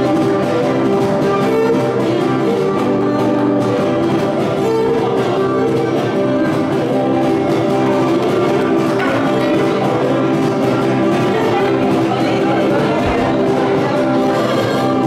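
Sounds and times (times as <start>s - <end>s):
lute strummed in dance rhythm: 0.0s - 15.0s.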